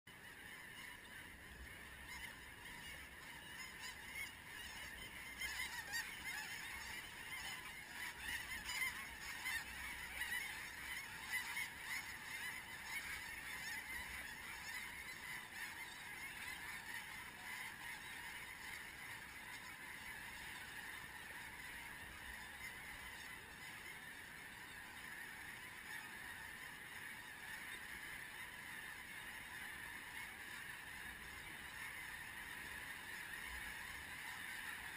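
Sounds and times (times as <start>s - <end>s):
flock of geese calling: 0.1s - 34.9s.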